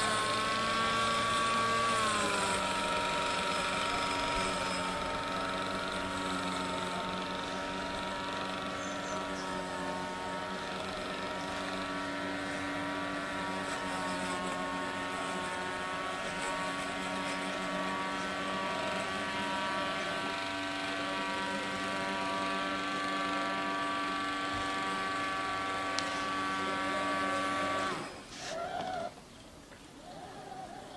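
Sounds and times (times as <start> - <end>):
motor drone: 0.0 - 29.3.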